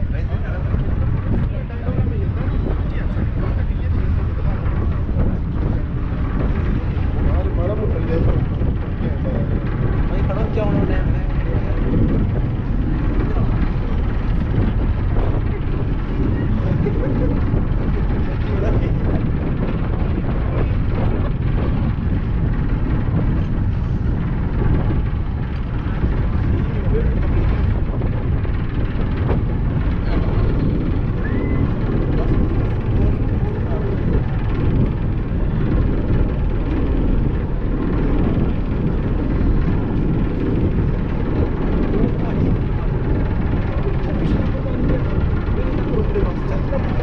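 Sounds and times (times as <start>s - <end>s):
ferry engine rumble: 0.0s - 47.0s.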